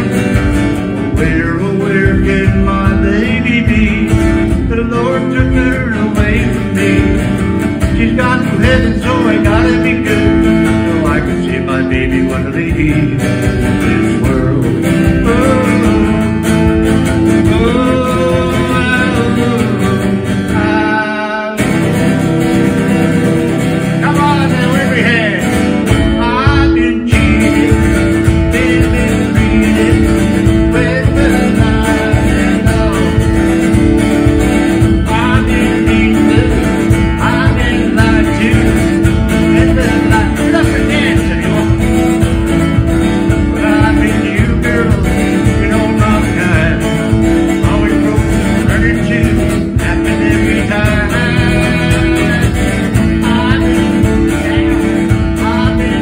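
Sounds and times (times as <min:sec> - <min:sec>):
acoustic guitar strumming: 0:00.0 - 0:56.0
man singing: 0:00.0 - 0:56.0.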